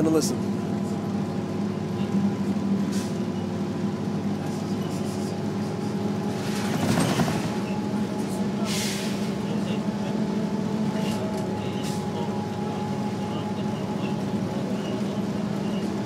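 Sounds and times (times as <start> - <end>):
bus diesel engine drone: 0.0 - 16.0
road noise: 0.0 - 16.0.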